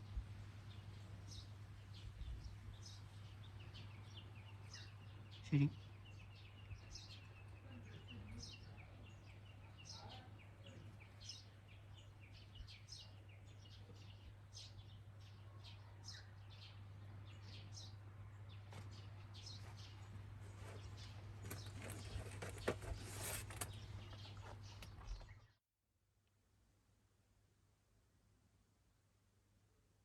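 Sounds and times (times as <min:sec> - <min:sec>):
faint birds chirping: 0:00.0 - 0:25.6.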